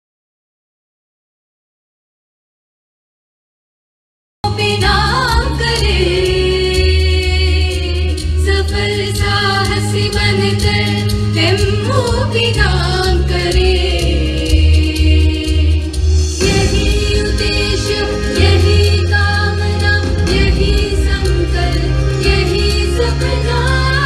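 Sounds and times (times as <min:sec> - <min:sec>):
choir of young women singing: 0:04.5 - 0:24.0.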